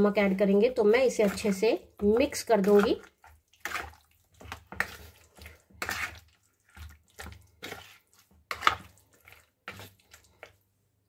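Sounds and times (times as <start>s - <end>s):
spoon squelching through marinade: 0.2s - 10.8s.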